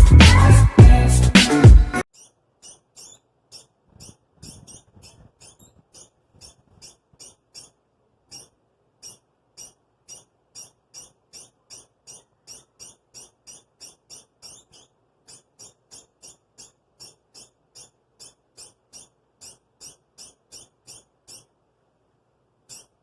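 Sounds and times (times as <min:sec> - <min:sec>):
degu high squeaking calls: 0:02.1 - 0:21.6, 0:22.6 - 0:23.0.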